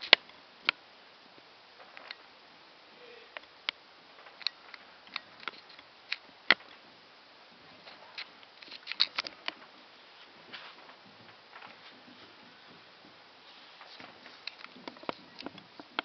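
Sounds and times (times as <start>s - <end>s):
faint hiss: 0.0s - 16.0s
fireworks popping and crackling: 0.0s - 16.0s.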